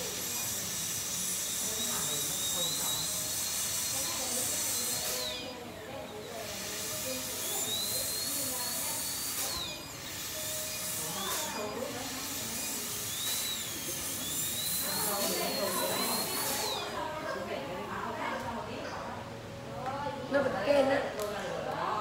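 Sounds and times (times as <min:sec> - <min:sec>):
dental drill whine: 0:00.0 - 0:18.5.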